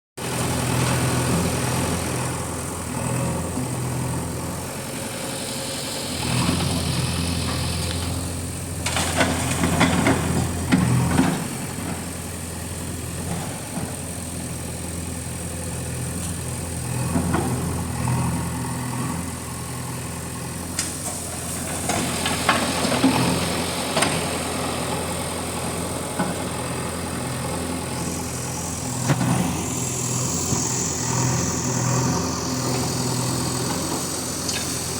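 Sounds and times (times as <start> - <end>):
backhoe diesel engine running: 0.2 - 34.9.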